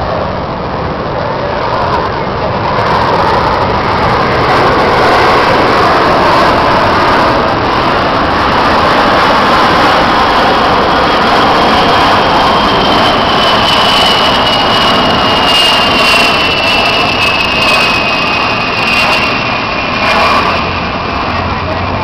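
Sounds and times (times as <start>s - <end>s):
jet aircraft flying past: 0.0s - 22.0s.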